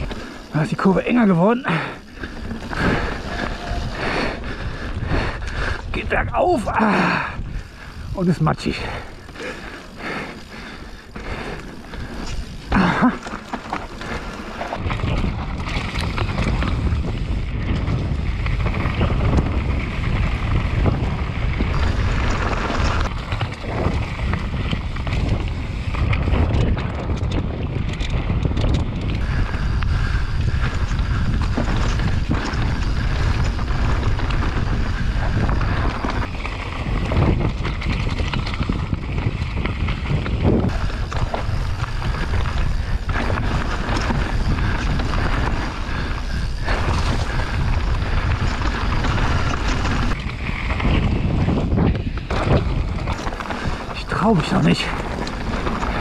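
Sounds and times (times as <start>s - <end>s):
bike rattling over bumps: 0.0s - 56.0s
bike tyre noise on dirt: 0.0s - 56.0s
wind buffeting microphone: 0.0s - 56.0s.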